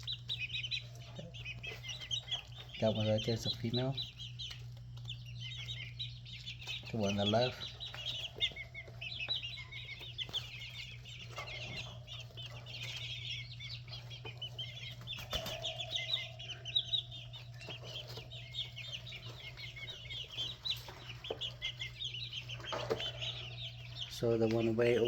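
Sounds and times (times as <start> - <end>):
chicks peeping: 0.0 - 25.0
steady low hum: 0.0 - 25.0.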